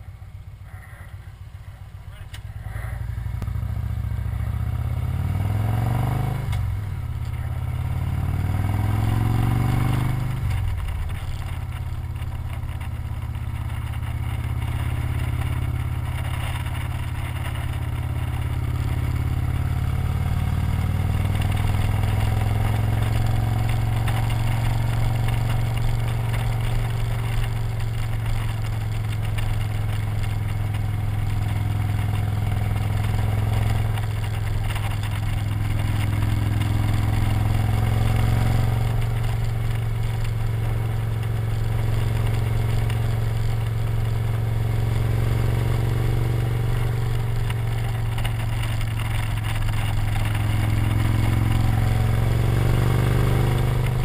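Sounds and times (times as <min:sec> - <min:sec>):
motorcycle engine accelerating: 0:00.0 - 0:54.0
road noise: 0:00.0 - 0:54.0.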